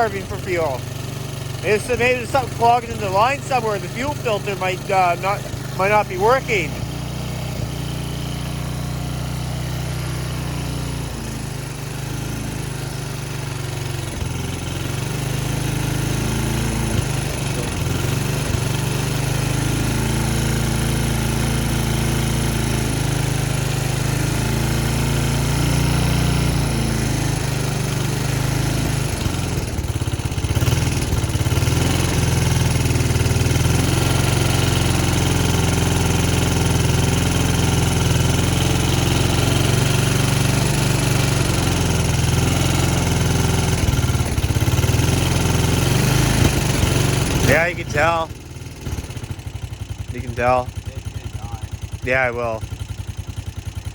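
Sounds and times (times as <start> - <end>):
motorcycle engine idling unevenly: 0.0 - 53.9.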